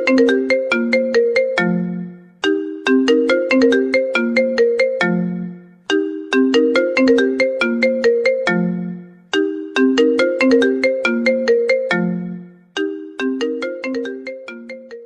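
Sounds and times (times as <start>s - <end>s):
phone ringtone melody: 0.0s - 15.0s.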